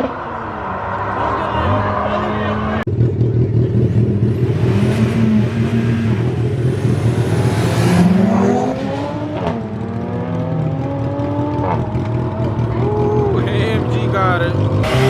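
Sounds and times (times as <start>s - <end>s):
race cars accelerating: 0.0s - 15.0s.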